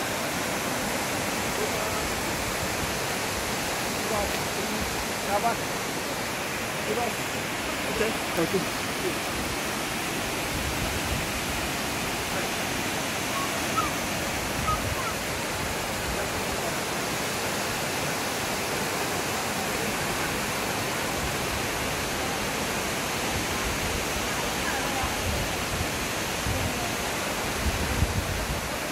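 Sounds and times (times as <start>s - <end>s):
waterfall rushing into rocky river: 0.0s - 28.9s.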